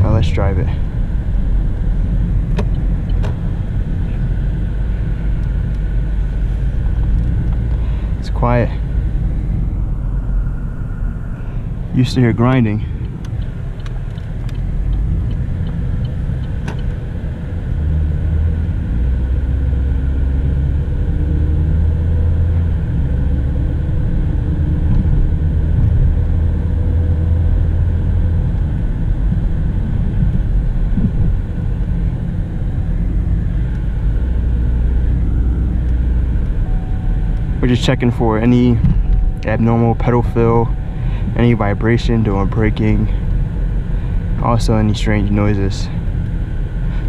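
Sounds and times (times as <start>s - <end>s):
faint wavering engine hum: 0.0s - 47.0s
road and engine rumble in car: 0.0s - 47.0s.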